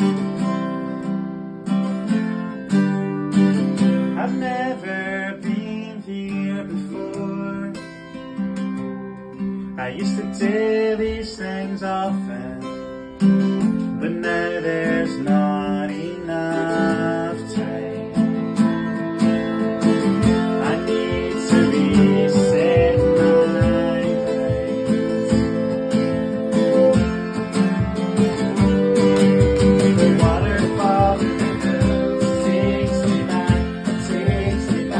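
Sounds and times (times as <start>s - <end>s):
strummed acoustic guitar: 0.0s - 34.9s.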